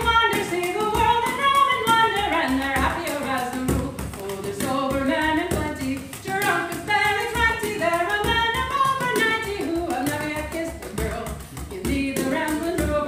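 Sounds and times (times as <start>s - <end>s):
frame drum beat: 0.0s - 13.0s
woman singing: 0.0s - 13.0s.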